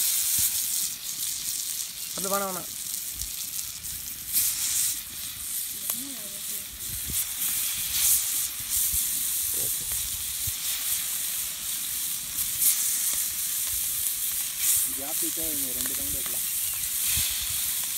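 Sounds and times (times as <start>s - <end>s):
fish sizzling in hot oil: 0.0s - 17.9s.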